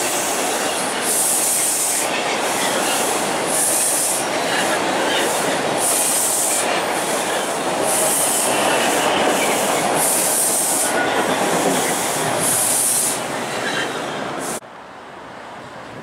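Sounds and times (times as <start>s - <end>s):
high hiss: 0.0s - 13.5s
train wheels rumbling on rail: 0.0s - 14.6s.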